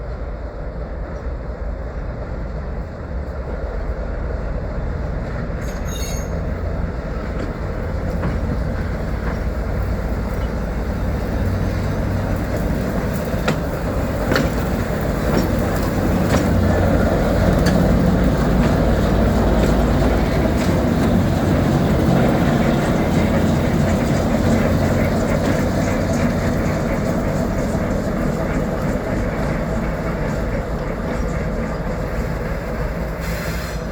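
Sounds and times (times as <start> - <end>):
diesel locomotive engine droning: 0.0 - 33.9.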